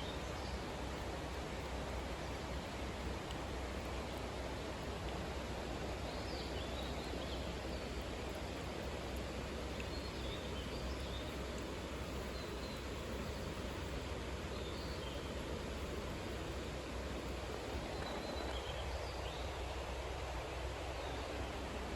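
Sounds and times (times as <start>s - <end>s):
outdoor background noise: 0.0s - 21.9s.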